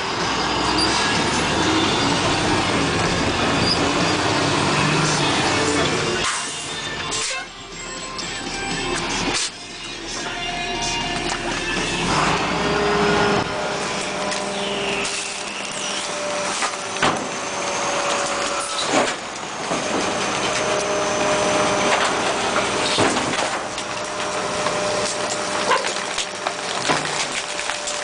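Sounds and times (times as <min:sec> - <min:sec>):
garbage truck running: 0:00.0 - 0:28.0.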